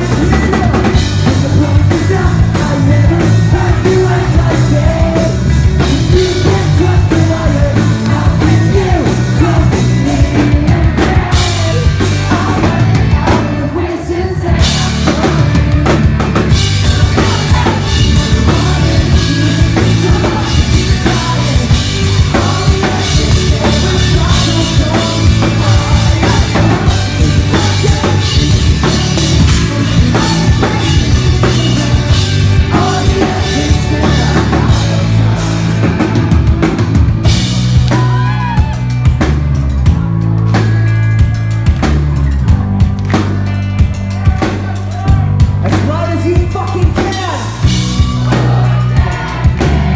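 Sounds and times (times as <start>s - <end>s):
pop-punk band playing live: 0.0s - 49.9s.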